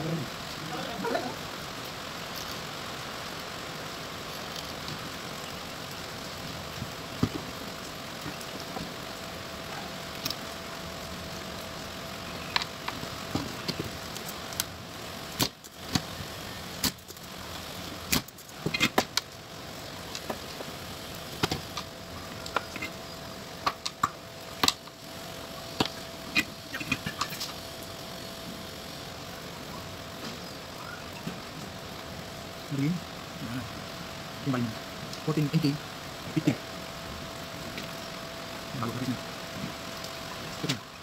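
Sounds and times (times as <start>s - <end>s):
background hum: 0.0s - 41.0s.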